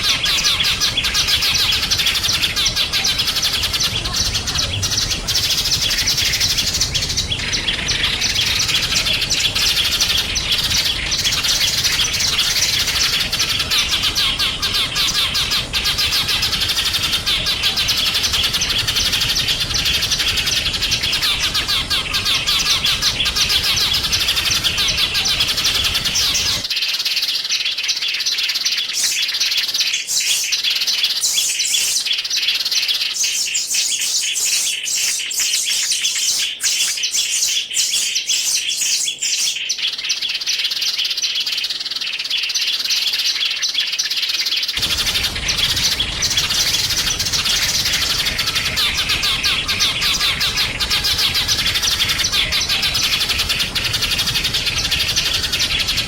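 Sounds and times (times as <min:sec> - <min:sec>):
small songbirds chirping: 0:00.0 - 0:56.0.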